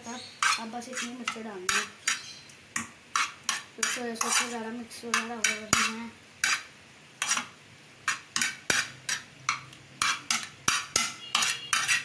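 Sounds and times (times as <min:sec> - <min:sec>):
metal spoon stirring in metal pan: 0:00.0 - 0:12.0.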